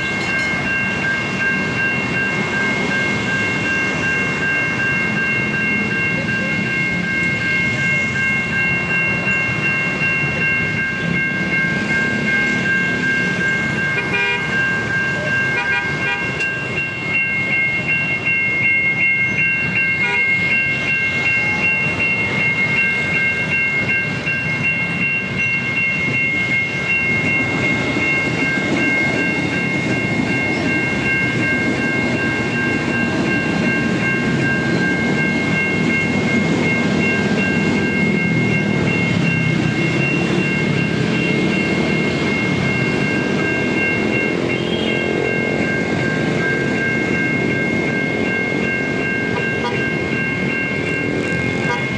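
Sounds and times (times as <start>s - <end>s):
crossing signal high-pitched tone: 0.0s - 51.9s
train rumble and wheel clatter: 0.0s - 51.9s.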